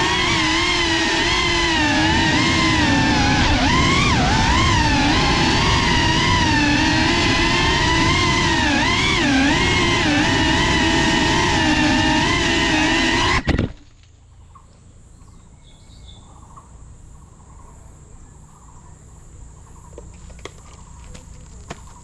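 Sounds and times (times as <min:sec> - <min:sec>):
insect drone: 0:00.0 - 0:22.0.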